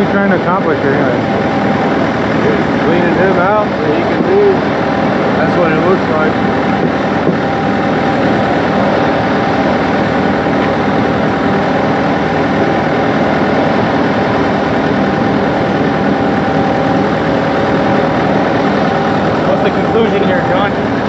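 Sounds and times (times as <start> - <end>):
heavy engine running: 0.0 - 21.0
steady whine: 0.0 - 21.0.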